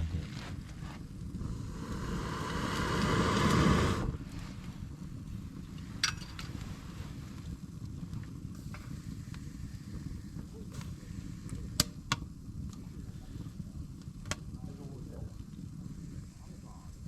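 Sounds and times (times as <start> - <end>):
steady low rumble: 0.0 - 17.0
wood fire crackling: 0.0 - 17.0
sharp pops from fire: 0.1 - 16.5.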